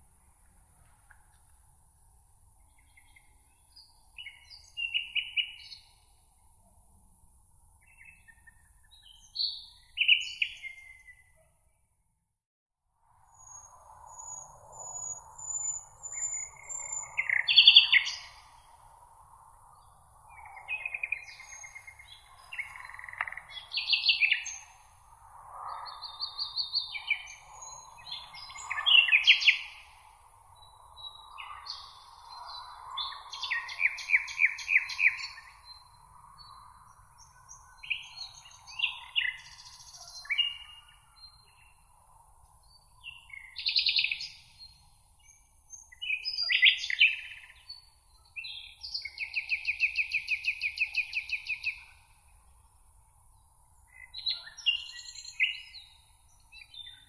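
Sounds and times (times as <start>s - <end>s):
songbirds chirping and trilling: 2.4s - 6.5s, 7.6s - 11.4s, 13.3s - 57.0s.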